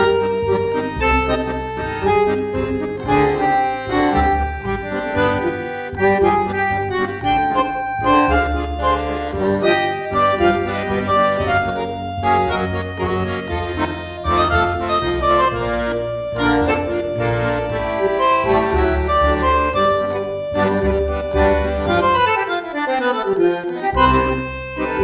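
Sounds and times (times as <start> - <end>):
accordion melody: 0.0 - 25.0
bass line: 0.0 - 25.0.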